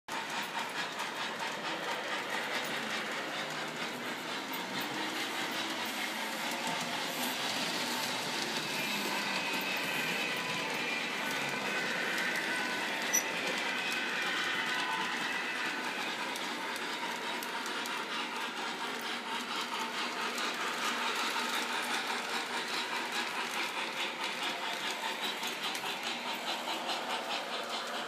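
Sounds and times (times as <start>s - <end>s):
model train motor whine: 0.2s - 28.0s
wheels clicking over rail joints: 0.2s - 28.0s.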